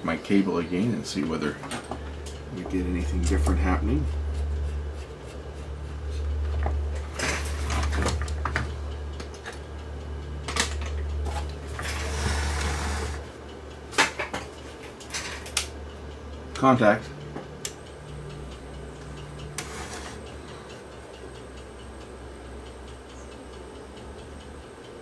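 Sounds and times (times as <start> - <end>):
low hum: 1.9 - 13.9, 15.2 - 25.0.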